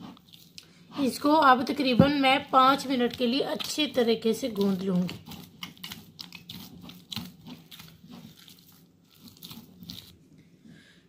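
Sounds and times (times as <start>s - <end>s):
hand kneading sticky dough: 0.0s - 10.4s.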